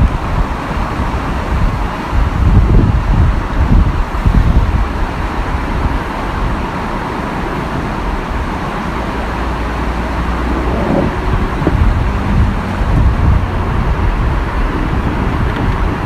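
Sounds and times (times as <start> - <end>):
rush of falling water: 0.0 - 16.0
wind buffeting on microphone: 0.0 - 16.0.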